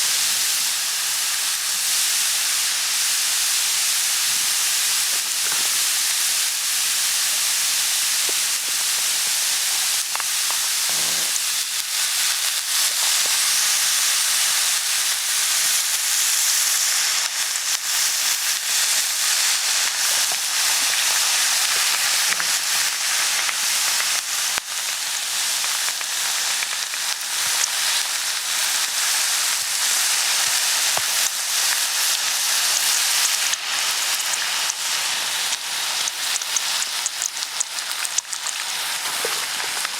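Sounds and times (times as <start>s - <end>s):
food sizzling on a griddle: 0.0s - 39.9s.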